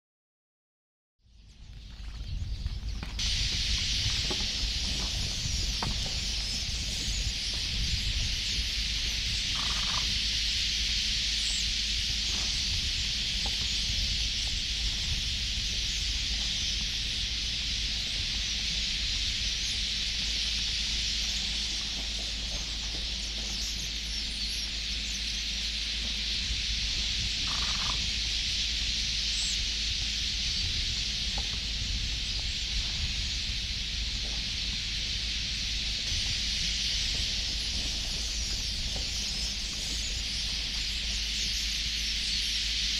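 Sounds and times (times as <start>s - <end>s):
high-pitched insect drone: 3.0s - 42.9s
faint calls: 3.2s - 42.9s.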